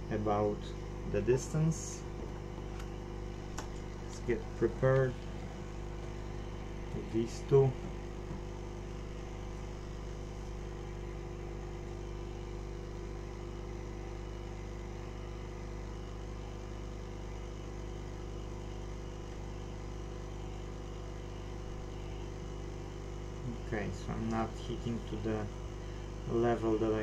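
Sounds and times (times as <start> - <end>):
hot air blower whirring: 0.0 - 27.0.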